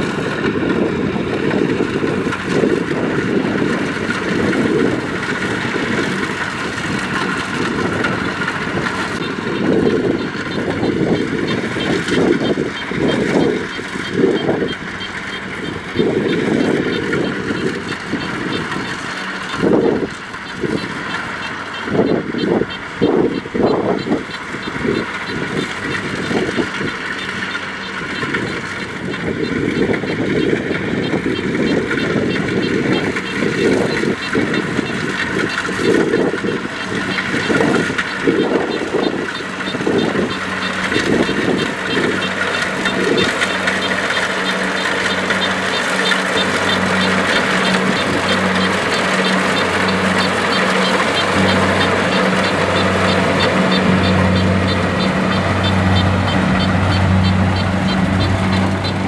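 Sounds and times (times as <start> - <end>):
combine harvester engine droning: 0.0 - 59.0
low rumbling: 0.0 - 59.0
faint regular ticking: 9.2 - 59.0.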